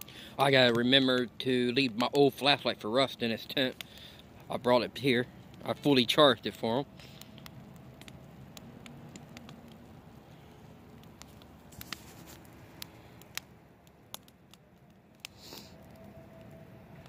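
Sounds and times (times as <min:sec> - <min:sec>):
fire hissing: 0:00.0 - 0:01.7, 0:02.6 - 0:17.0
campfire crackling and popping: 0:00.0 - 0:17.0.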